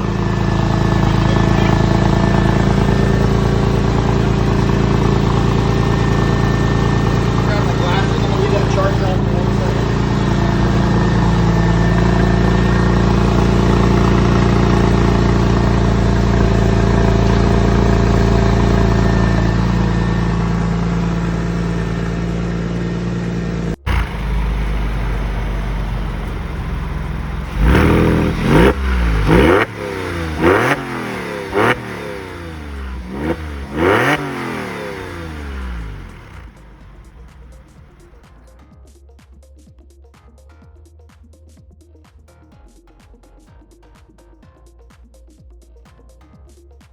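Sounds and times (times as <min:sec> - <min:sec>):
car engine idling and revving: 0:00.0 - 0:38.6.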